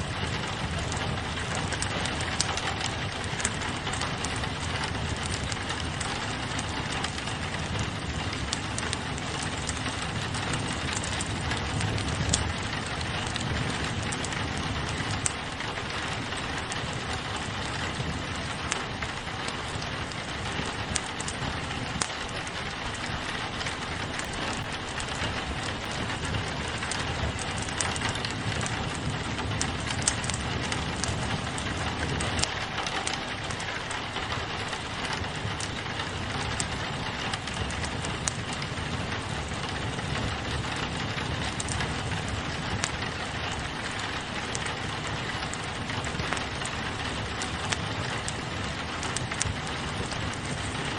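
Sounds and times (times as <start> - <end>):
rain pattering on window: 0.0 - 50.9
wood fire crackling: 0.0 - 50.9.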